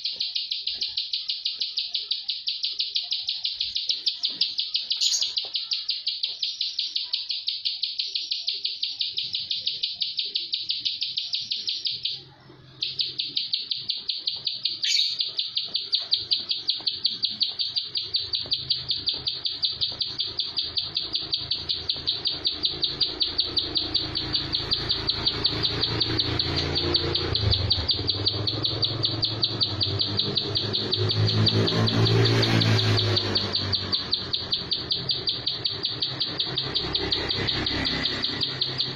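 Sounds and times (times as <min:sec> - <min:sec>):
bird calling rapid high notes: 0:00.0 - 0:38.9.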